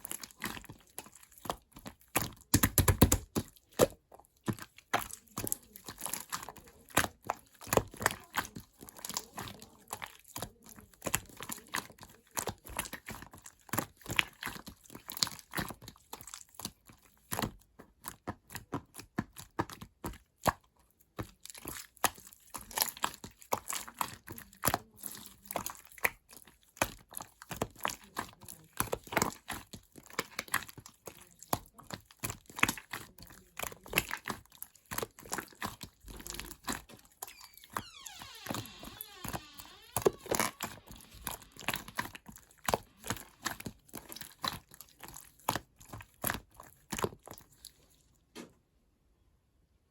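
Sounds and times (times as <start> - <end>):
slime crackling and popping: 0.0 - 47.8.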